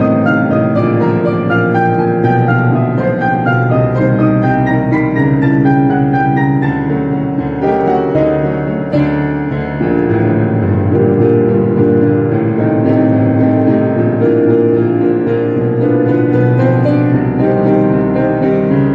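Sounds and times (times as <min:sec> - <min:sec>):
piano music: 0:00.0 - 0:18.9.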